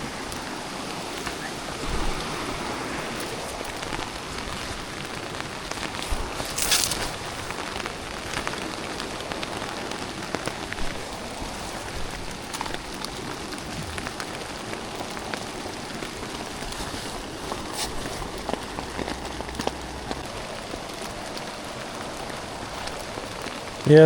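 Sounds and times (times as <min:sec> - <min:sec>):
rain falling: 0:00.0 - 0:24.0
rustling hiss: 0:00.0 - 0:24.0.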